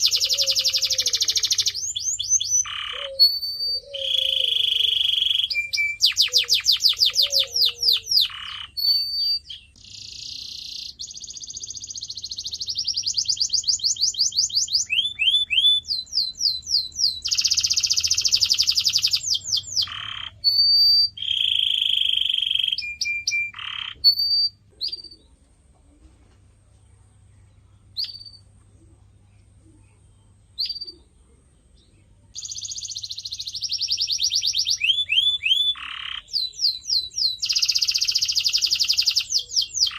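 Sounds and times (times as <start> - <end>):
canary singing: 0.0 - 25.4, 27.2 - 39.9.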